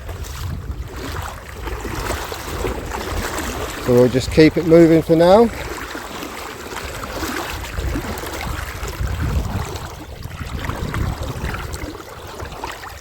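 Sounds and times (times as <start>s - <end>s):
stream flowing: 0.0s - 13.0s
water splashing from wading: 0.0s - 13.0s.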